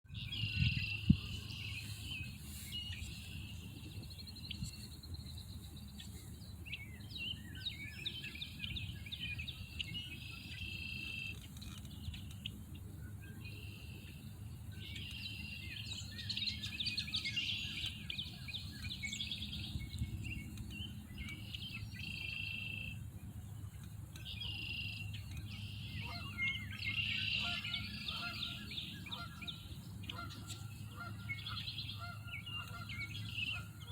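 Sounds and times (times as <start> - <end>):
songbirds chirping: 0.1 - 33.9
steady low hum: 0.1 - 33.9.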